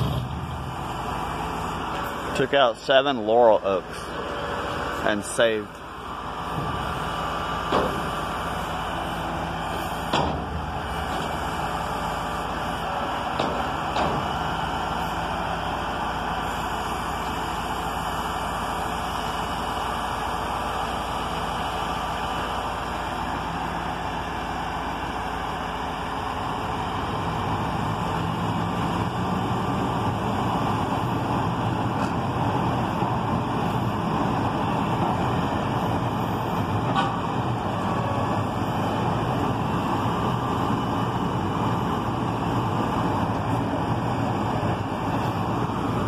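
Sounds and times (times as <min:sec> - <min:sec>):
diesel truck engine running: 0:00.0 - 0:46.0.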